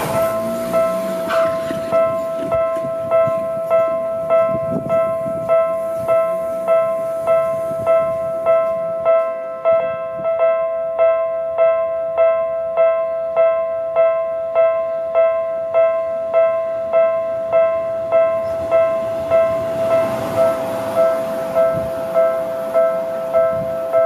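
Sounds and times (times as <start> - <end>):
level crossing alarm bell ringing: 0.0 - 24.0.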